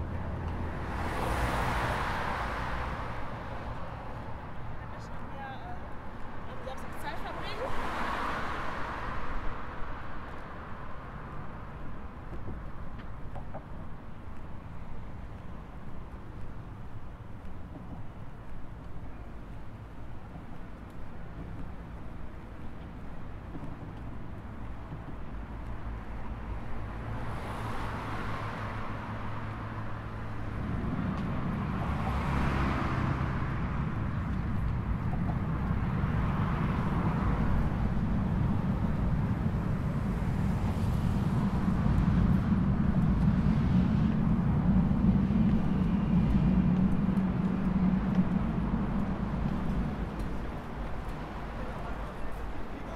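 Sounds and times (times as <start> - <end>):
cars passing: 0.0 - 52.9
low traffic rumble: 0.0 - 52.9.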